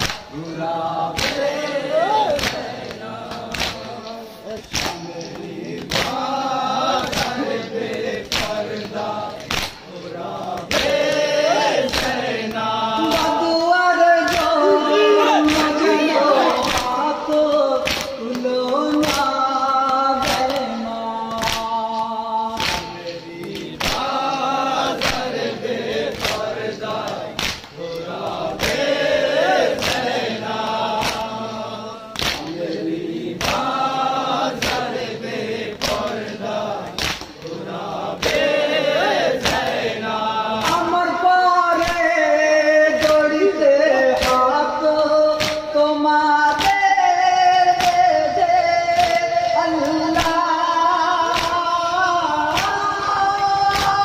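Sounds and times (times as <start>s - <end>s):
men chanting in chorus: 0.0s - 54.0s.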